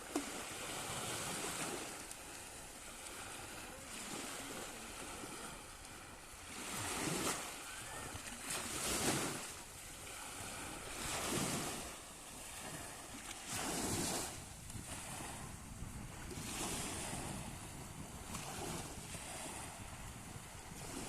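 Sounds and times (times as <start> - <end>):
sea waves washing onto shore: 0.0 - 21.0
wind rumbling on microphone: 3.1 - 21.0.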